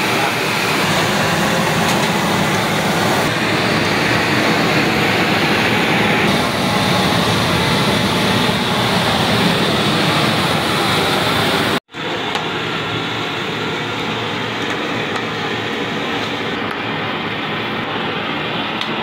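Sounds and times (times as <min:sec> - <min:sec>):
pans boiling hard: 0:00.0 - 0:17.2.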